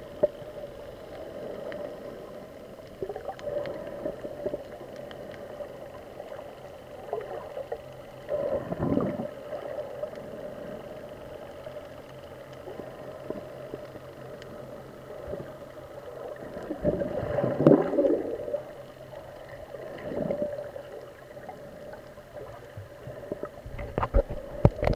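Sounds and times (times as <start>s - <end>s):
gurgling water: 0.0s - 24.9s
muffled underwater drone: 0.0s - 24.9s.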